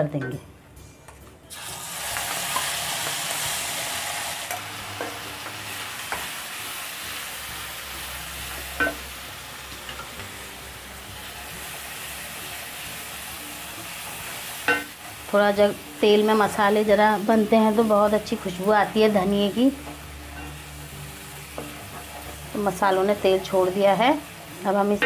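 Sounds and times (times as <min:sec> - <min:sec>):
paste sizzling in hot oil: 0:01.5 - 0:25.0.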